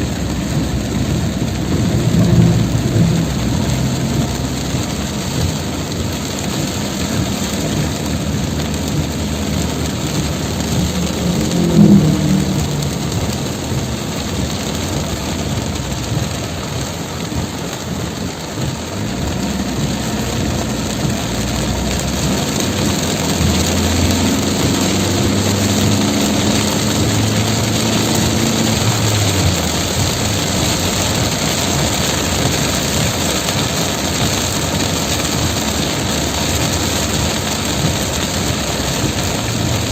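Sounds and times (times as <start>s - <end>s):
engine humming: 0.0s - 39.9s
heavy rain hissing: 0.0s - 39.9s
vehicle engine revving: 0.0s - 39.9s.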